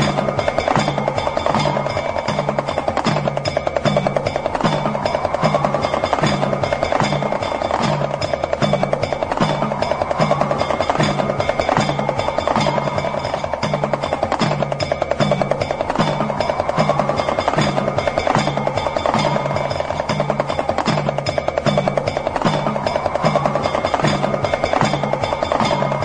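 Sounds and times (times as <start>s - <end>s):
rattle drum rattling: 0.0s - 26.0s.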